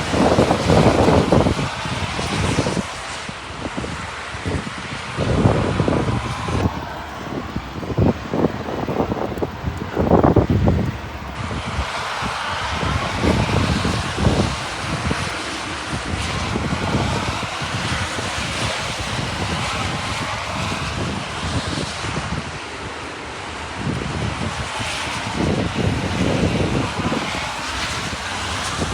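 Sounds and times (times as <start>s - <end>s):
heavy rain falling: 0.0s - 28.9s
wind buffeting microphone: 0.0s - 28.9s.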